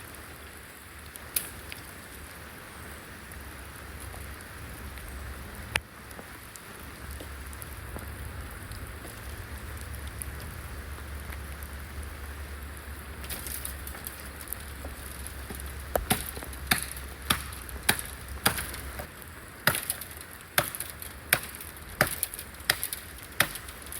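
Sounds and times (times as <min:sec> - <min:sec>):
steady rain falling: 0:00.0 - 0:23.9
drops ticking: 0:03.3 - 0:23.9.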